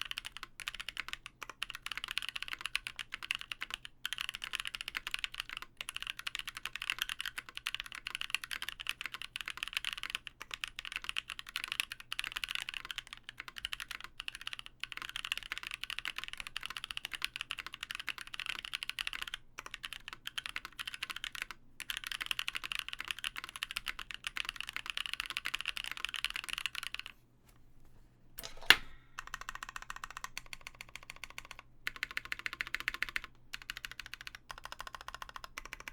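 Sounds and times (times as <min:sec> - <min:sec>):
mechanical keyboard typing: 0:00.0 - 0:27.1, 0:28.4 - 0:35.9.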